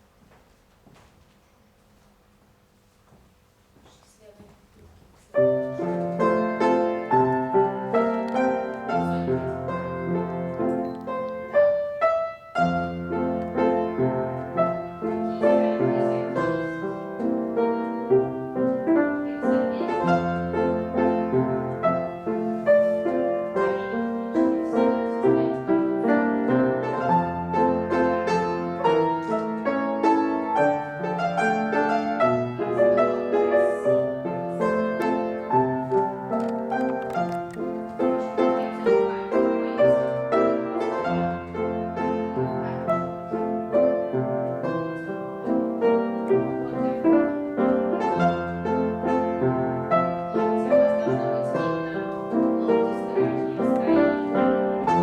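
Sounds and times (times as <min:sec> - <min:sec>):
classical piano playing: 0:05.2 - 0:55.0.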